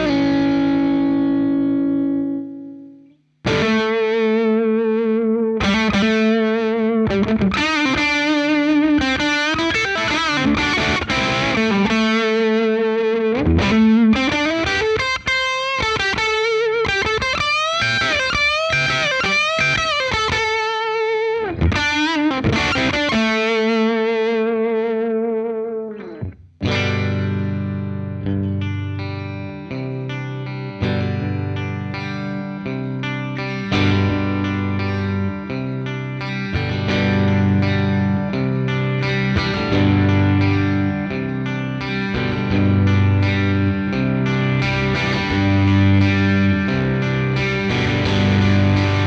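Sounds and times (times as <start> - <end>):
distorted electric guitar lead: 0.0 - 49.0.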